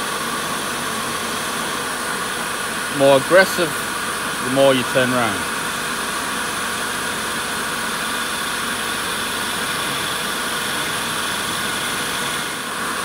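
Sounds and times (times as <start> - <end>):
wood lathe running: 0.0 - 13.0
chisel cutting spinning wood: 0.2 - 13.0.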